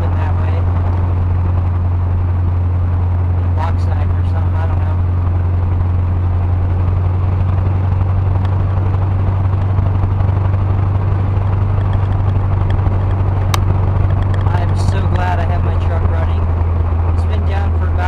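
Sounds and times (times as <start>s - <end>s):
car engine drone: 0.0s - 18.0s
road noise: 0.0s - 18.0s.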